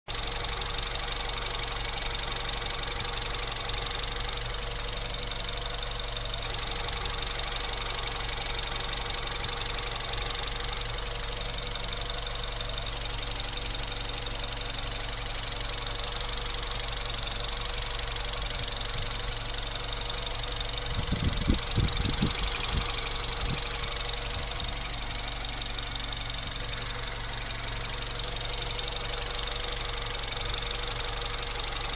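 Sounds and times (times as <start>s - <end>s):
car engine running: 0.1s - 31.9s.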